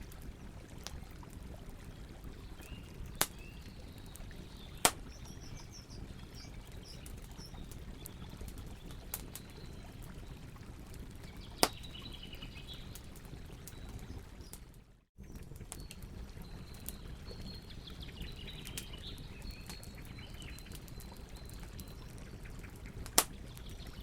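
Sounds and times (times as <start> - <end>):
burning wood popping: 0.0 - 14.6, 18.5 - 24.0
campfire crackling: 0.0 - 24.0
faint birds chirping: 0.1 - 24.0.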